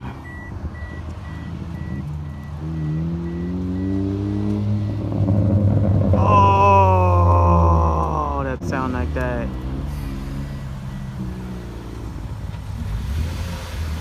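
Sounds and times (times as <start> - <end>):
car engine speeding up: 0.1 - 14.0.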